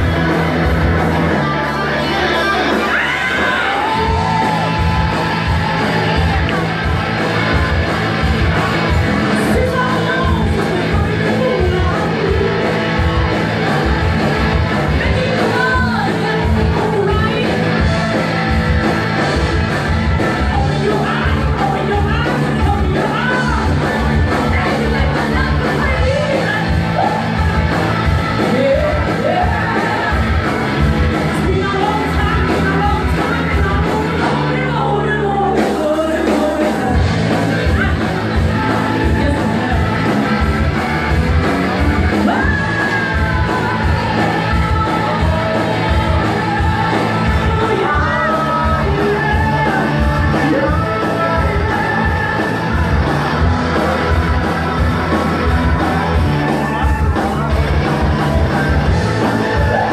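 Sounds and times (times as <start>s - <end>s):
person singing: 0.0s - 18.5s, 19.2s - 30.6s, 31.2s - 59.9s
live rock band playing: 0.0s - 59.9s.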